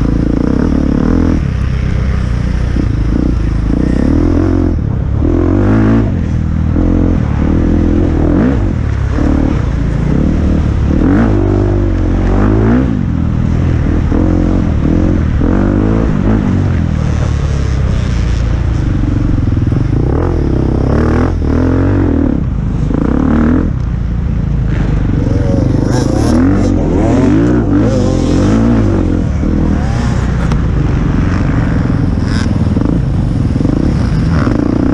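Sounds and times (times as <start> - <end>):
dirt bike engine revving: 0.0 - 23.8, 24.6 - 34.9.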